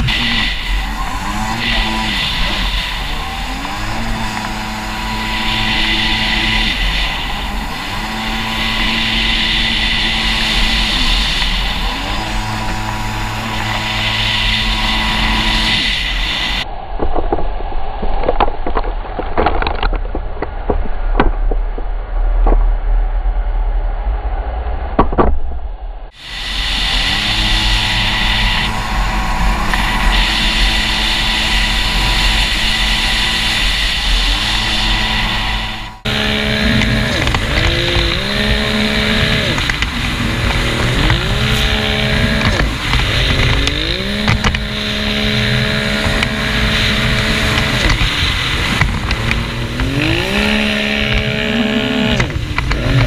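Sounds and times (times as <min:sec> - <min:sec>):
watercraft engine revving: 0:00.0 - 0:16.6, 0:26.1 - 0:53.0.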